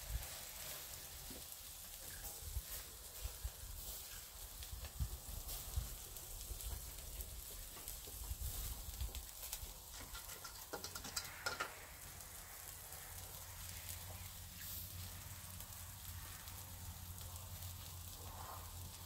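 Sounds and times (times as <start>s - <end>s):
meat sizzling on a grill: 0.0s - 19.0s
sharp crackles: 0.0s - 19.0s.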